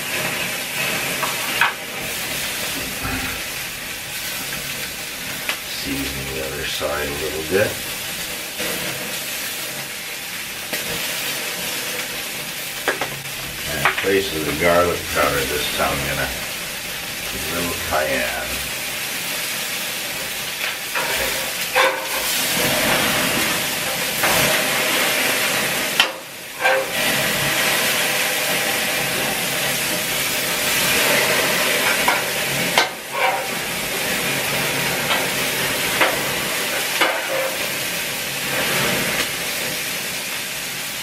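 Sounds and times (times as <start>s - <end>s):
burgers sizzling on grill: 0.0s - 41.0s.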